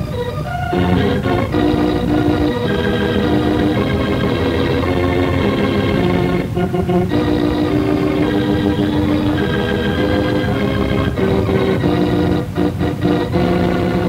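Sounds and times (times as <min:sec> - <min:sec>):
sustained theme music chords: 0:00.0 - 0:14.0.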